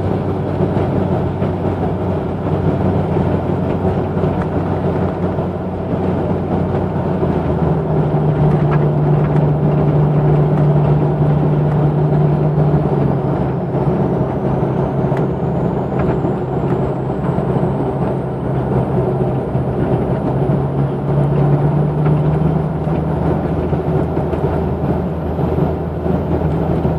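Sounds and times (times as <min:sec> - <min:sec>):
car exhaust drone: 0:00.0 - 0:26.9.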